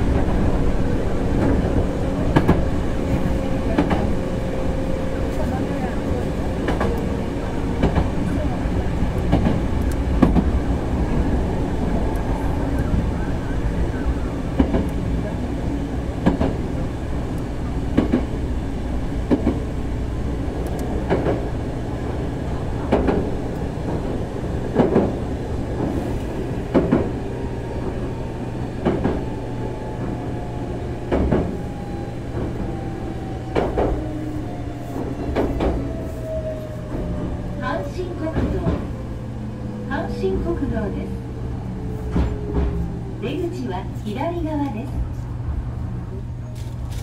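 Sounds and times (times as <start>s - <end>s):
electric train rumbling on rails: 0.0s - 47.0s.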